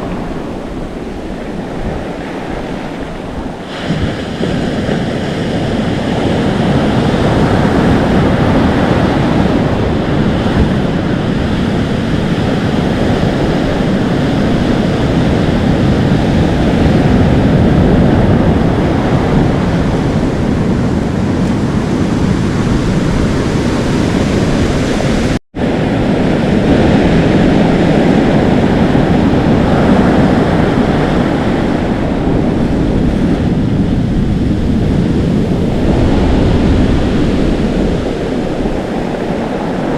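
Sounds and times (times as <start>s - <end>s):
ocean surf washing in: 0.0s - 39.9s
wind on microphone: 0.0s - 39.9s.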